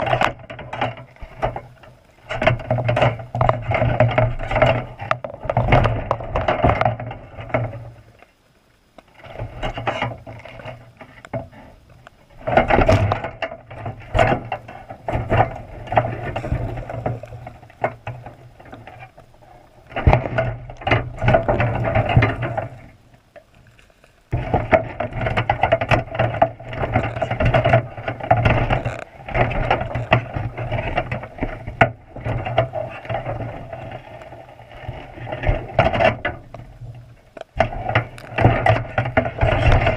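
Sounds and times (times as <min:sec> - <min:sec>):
underwater crab trap rattling: 0:00.0 - 0:08.0, 0:09.1 - 0:39.9.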